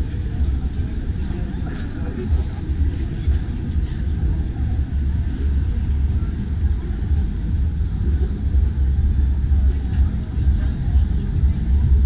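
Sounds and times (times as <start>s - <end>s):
low steady city rumble: 0.0s - 12.0s.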